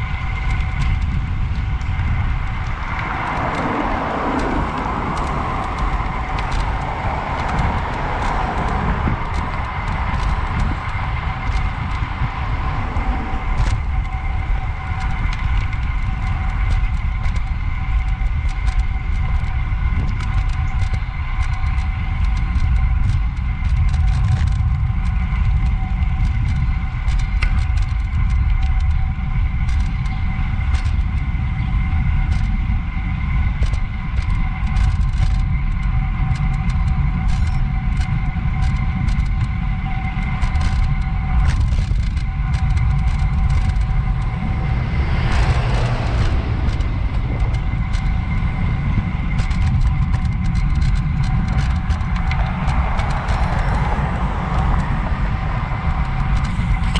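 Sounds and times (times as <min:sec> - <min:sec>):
bicycle clicks and ticks: 0:00.0 - 0:56.9
low rumble of wind and road: 0:00.0 - 0:56.9.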